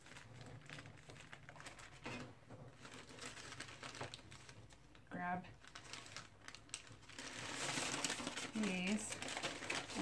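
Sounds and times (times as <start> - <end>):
paper wrapper rustling: 0.0 - 10.0.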